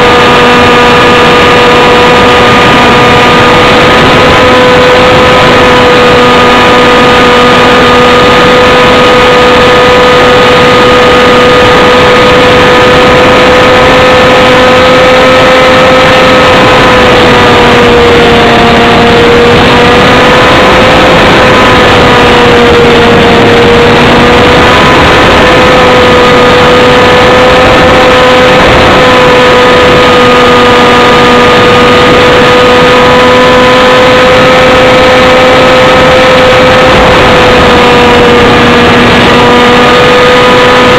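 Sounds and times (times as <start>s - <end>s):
airflow noise: 0.0s - 40.9s
model airplane motor and propeller: 0.0s - 40.9s.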